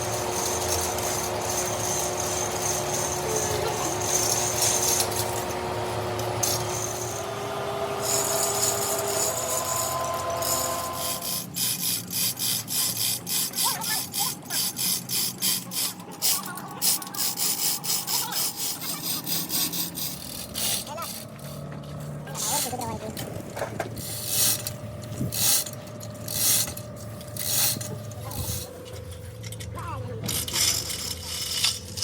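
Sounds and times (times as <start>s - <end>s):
filing or sawing metal: 0.0s - 32.0s
steady machine hum: 0.0s - 32.0s.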